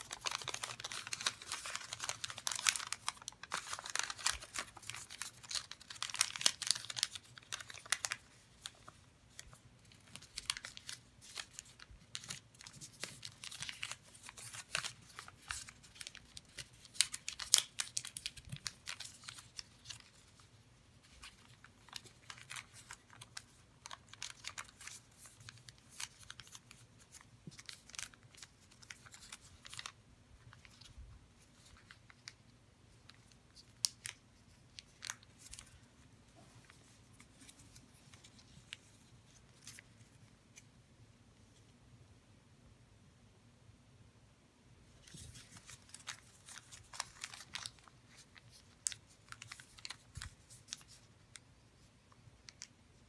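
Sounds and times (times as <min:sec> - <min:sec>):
paper crinkling as it is folded: 0:00.0 - 0:40.7, 0:45.0 - 0:53.0.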